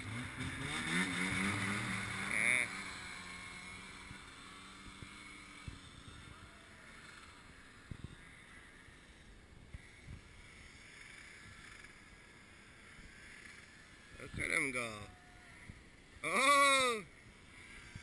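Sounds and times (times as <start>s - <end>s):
faint snowmobile engine: 0.0s - 18.0s.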